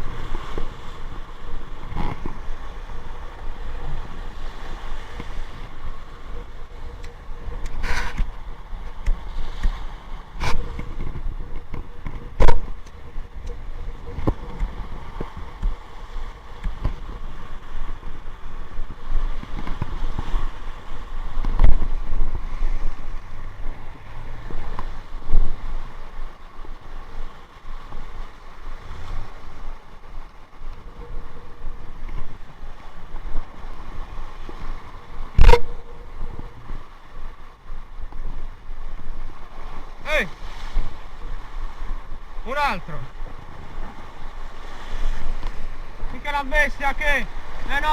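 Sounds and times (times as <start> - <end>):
wind buffeting microphone: 0.0 - 46.4
rough sea rushing: 0.0 - 47.9.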